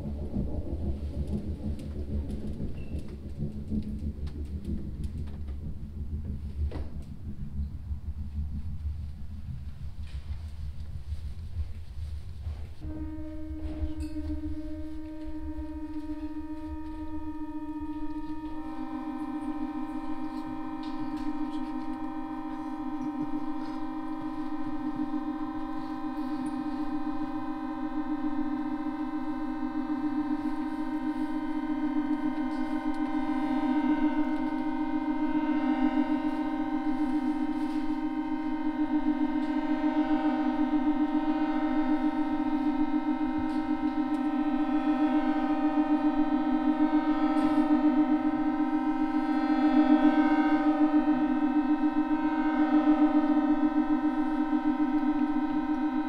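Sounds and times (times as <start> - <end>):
accordion sustained notes: 0.0 - 10.2, 12.8 - 56.0
low drone: 0.0 - 56.0.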